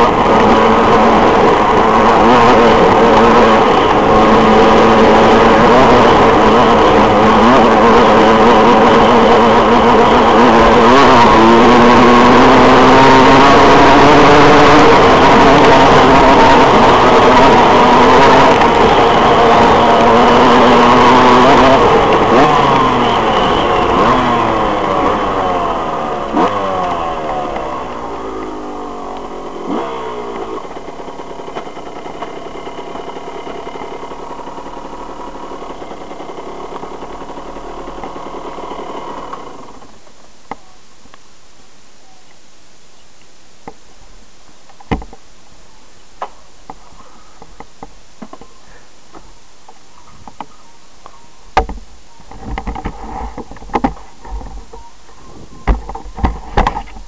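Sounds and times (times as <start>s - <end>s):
two-stroke motorcycle engine: 0.0s - 41.2s, 44.7s - 57.0s.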